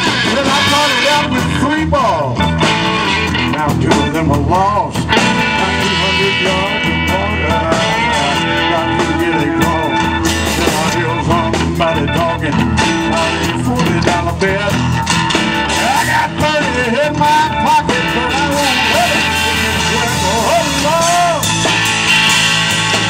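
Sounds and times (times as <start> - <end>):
blues rock band playing: 0.0 - 23.0
lead guitar bending notes: 0.0 - 23.0.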